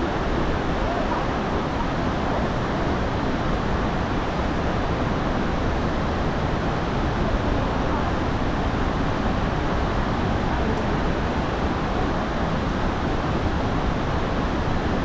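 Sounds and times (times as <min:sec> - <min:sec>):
waterfall and river rapids rushing: 0:00.0 - 0:15.0.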